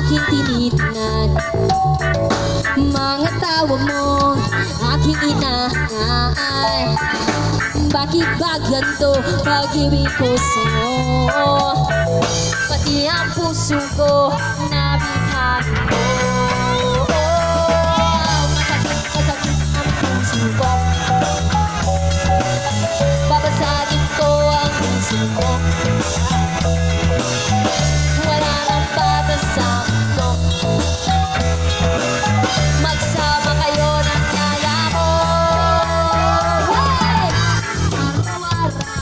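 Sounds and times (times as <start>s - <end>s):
bass guitar: 0.0s - 39.0s
drum kit: 0.0s - 39.0s
electric guitars: 0.0s - 39.0s
melodic lead line: 0.0s - 39.0s.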